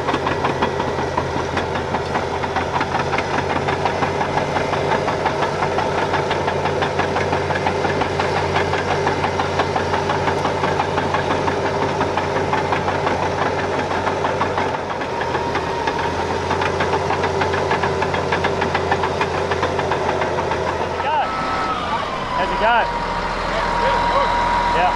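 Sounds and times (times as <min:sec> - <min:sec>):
bulldozer diesel engine rattling: 0:00.0 - 0:24.9.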